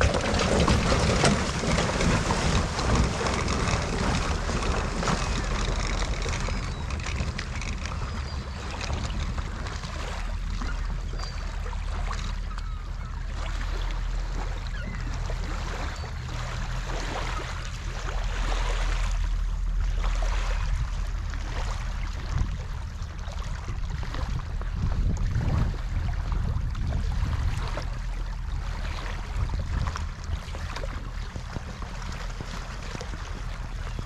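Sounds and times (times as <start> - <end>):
sea water sloshing and splashing: 0.0 - 34.0
wind rumble on microphone: 0.0 - 34.0.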